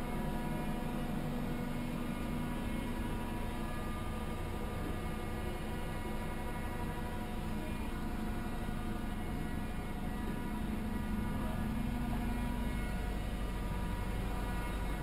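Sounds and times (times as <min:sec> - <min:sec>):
machinery hum with steady tones: 0:00.0 - 0:15.0.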